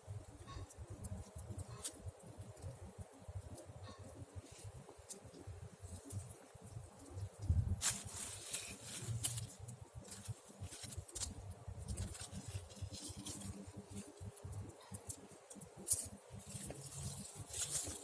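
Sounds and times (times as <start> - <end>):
low fire rumble: 0.1 - 18.0.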